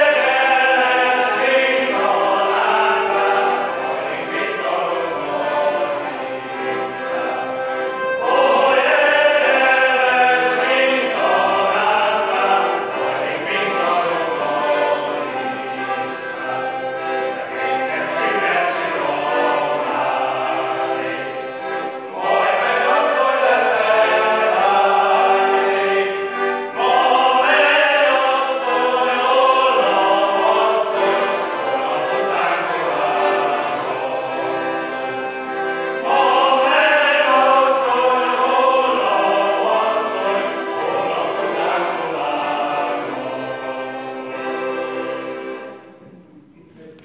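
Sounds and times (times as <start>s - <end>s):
men's choir singing: 0.0s - 45.8s.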